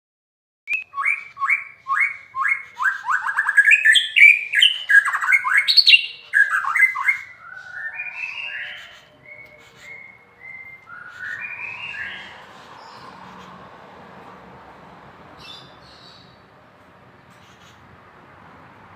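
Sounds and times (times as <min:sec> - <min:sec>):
songbird singing: 0:00.7 - 0:13.8, 0:15.3 - 0:18.0.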